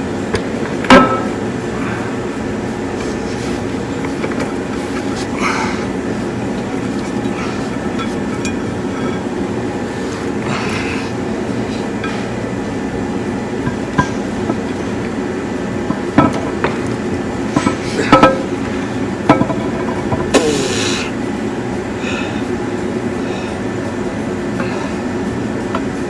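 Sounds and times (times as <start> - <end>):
steady low drone: 0.0 - 26.0.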